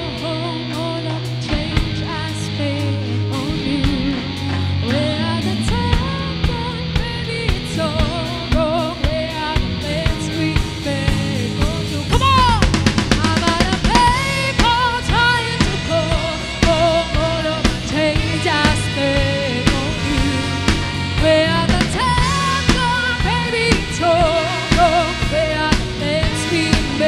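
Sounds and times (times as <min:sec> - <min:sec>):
pop rock band playing: 0:00.0 - 0:27.0
woman singing: 0:00.0 - 0:27.0.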